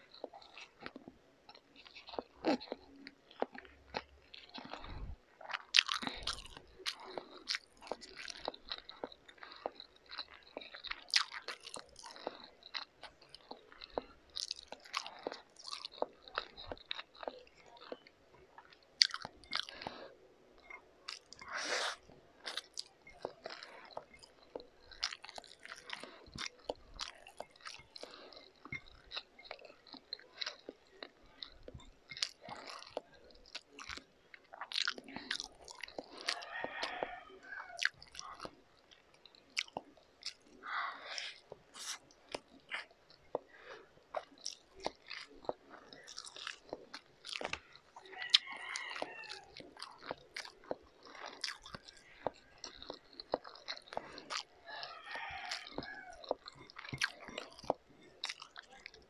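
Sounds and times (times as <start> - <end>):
person chewing noodles: 0.0 - 59.0.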